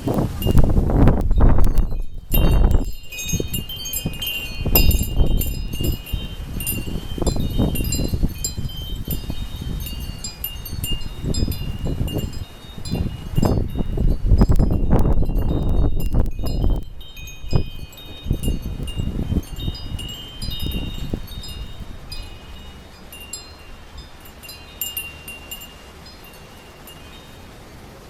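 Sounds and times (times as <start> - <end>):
wind rumbling on microphone: 0.0 - 28.0
metal wind chimes jangling: 0.3 - 27.4.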